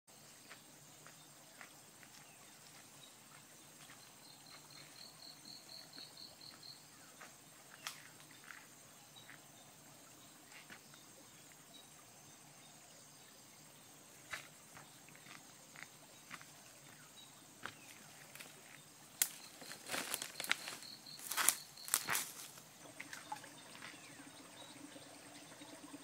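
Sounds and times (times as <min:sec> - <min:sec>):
high insect drone: 0:00.2 - 0:26.0.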